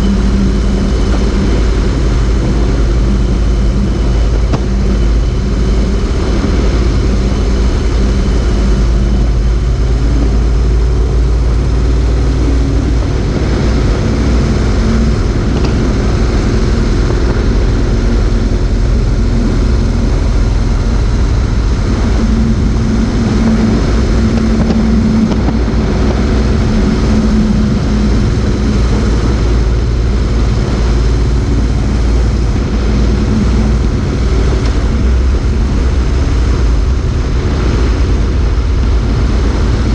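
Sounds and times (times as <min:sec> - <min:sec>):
motorcycle engine at speed: 0:00.0 - 0:39.9
wind rush: 0:00.0 - 0:39.9.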